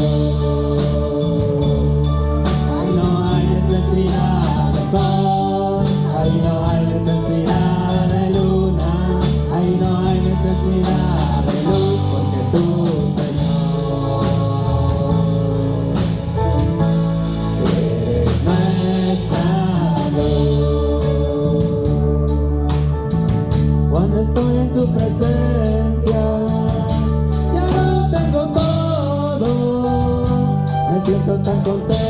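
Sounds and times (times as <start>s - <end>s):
people singing: 0.0s - 23.0s, 23.9s - 32.0s
band with guitar: 0.0s - 32.0s
drums steady beat: 0.0s - 32.0s.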